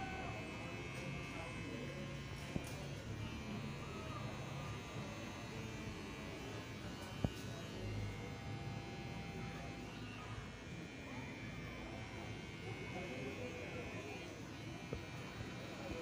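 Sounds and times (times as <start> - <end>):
electric hair clippers buzzing: 0.0 - 16.0.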